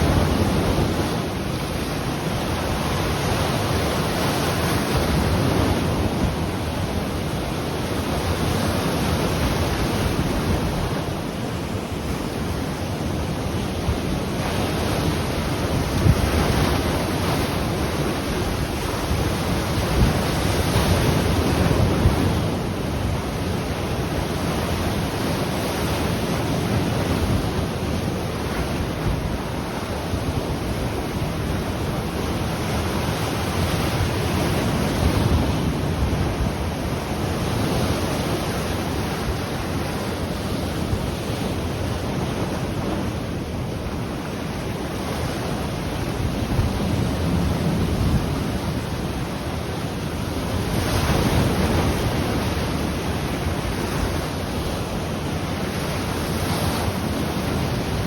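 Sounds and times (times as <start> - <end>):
ocean waves breaking on shore: 0.0 - 58.0
wind buffeting microphone: 0.0 - 58.0.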